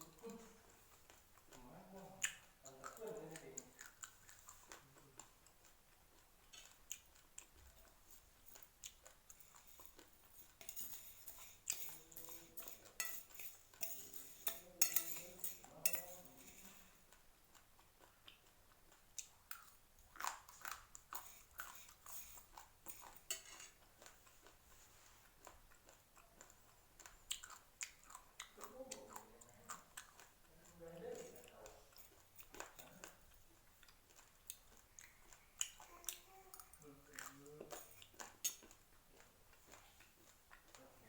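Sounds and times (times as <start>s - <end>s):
raw rice grains being chewed: 0.0s - 41.0s.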